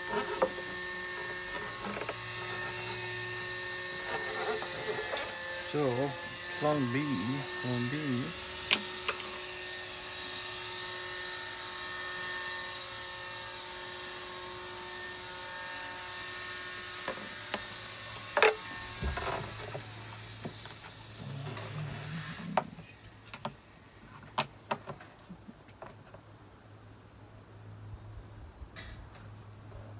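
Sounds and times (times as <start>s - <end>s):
steady mechanical hum: 0.0s - 29.9s.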